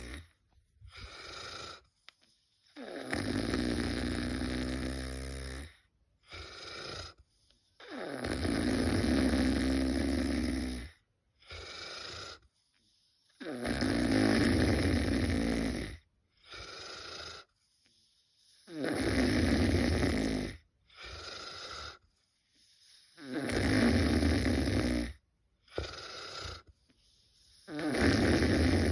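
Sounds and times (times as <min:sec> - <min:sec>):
loud snoring: 0:00.0 - 0:01.9, 0:02.6 - 0:28.9.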